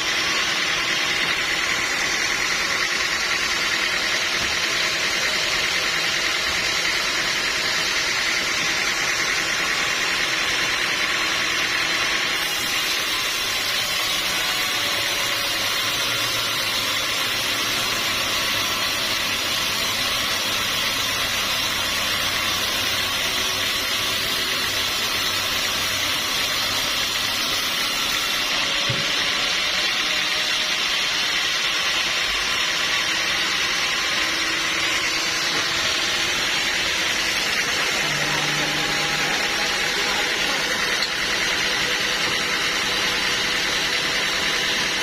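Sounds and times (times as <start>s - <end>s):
sawmill machinery hissing and humming: 0.0s - 45.0s.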